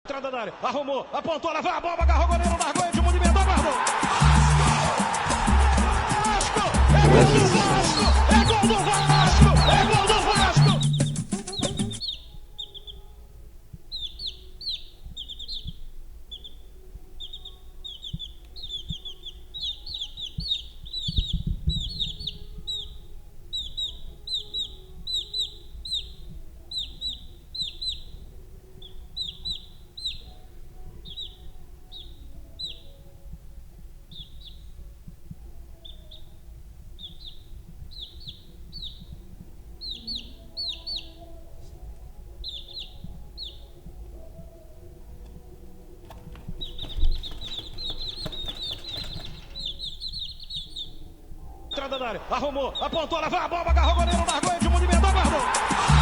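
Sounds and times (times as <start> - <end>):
baby chicks peeping: 2.4 - 56.0.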